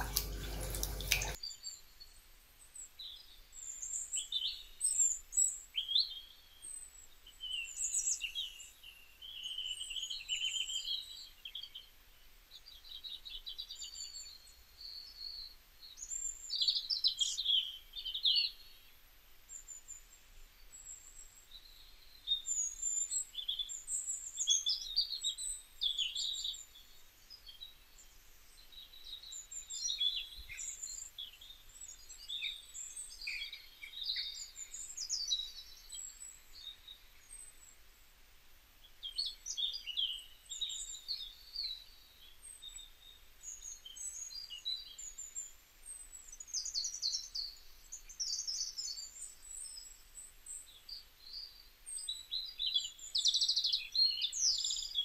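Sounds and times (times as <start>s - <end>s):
small birds chirping: 0.0s - 38.0s, 38.8s - 55.0s.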